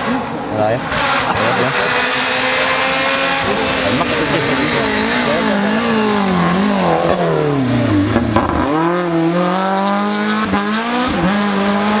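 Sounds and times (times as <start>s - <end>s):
rally car engines revving: 0.0s - 12.0s.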